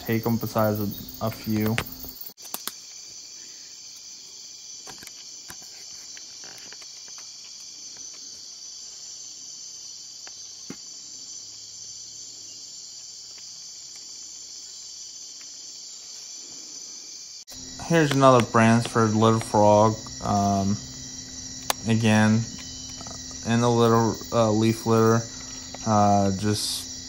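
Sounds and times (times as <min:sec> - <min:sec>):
night insects chorus: 0:00.0 - 0:27.0.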